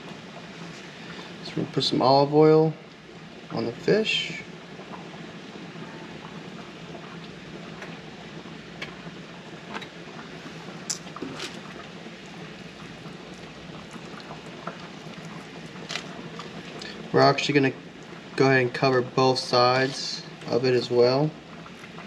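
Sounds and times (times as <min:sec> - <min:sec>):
pot of water boiling: 0:00.0 - 0:22.0.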